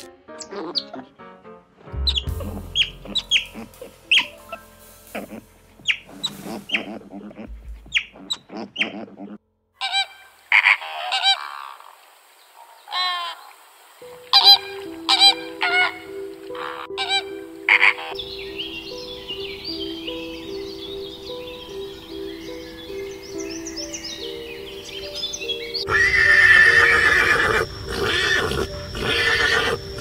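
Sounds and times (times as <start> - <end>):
honking bird calls: 2.0 - 11.8, 14.1 - 30.0
pitched bird calls: 2.0 - 11.9, 14.3 - 30.0.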